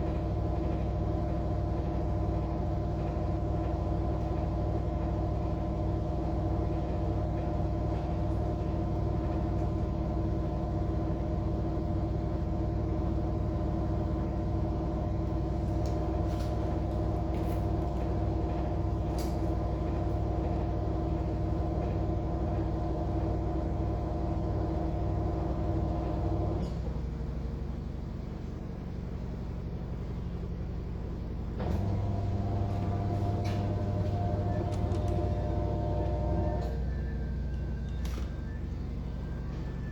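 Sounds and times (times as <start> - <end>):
air conditioner tonal hum: 0.0 - 39.9.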